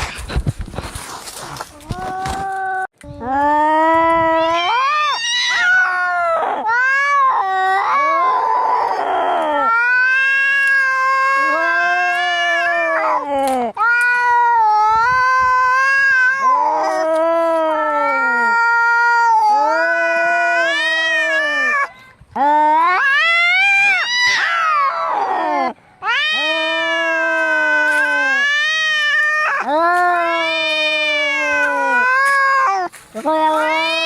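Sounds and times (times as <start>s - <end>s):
cats yowling angrily: 4.4s - 21.9s, 22.8s - 34.0s.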